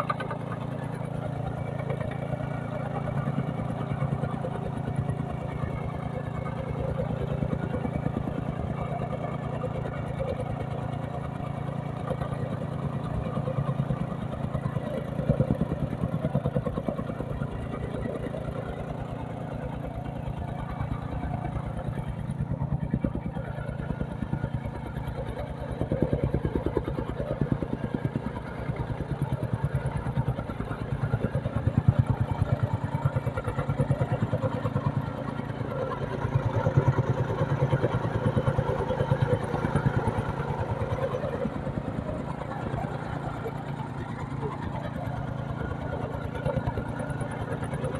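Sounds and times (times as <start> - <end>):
tamping rammer engine running: 0.0 - 47.9.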